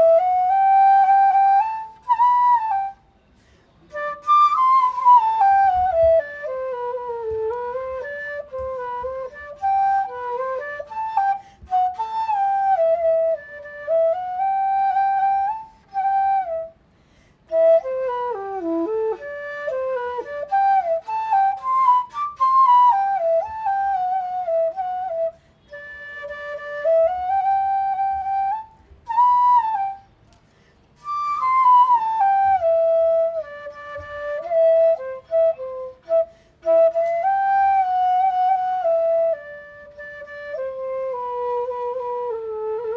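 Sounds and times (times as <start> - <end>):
solo flute melody: 0.0 - 42.9.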